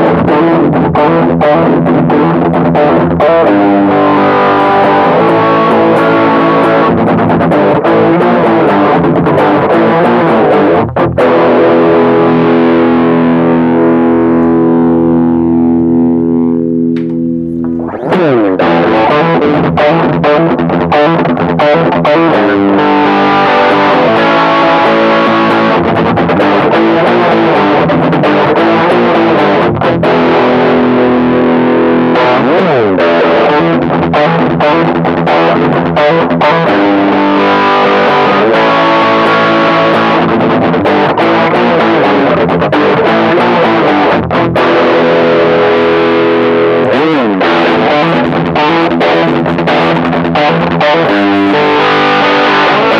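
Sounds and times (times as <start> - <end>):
distorted electric guitar: 0.0 - 52.9
guitar string slide: 0.0 - 52.9.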